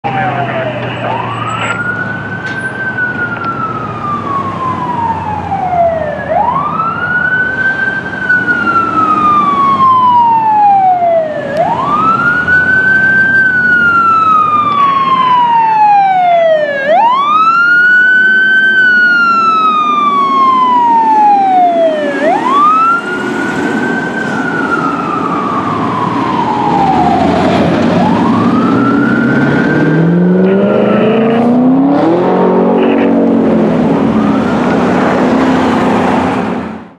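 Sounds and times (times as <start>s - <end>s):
fire engine siren wailing: 0.0s - 36.9s
truck rumble: 0.0s - 36.9s.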